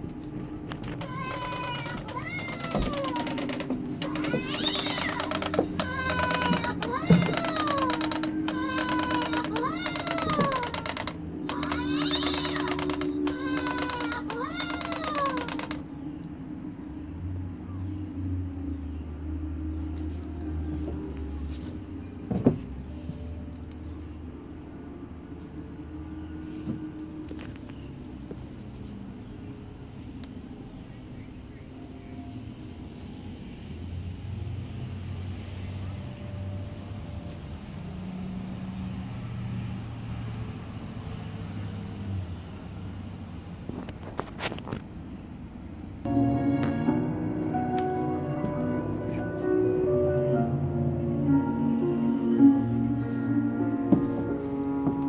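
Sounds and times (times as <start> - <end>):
vehicle engine humming: 0.0 - 44.1, 46.0 - 55.0.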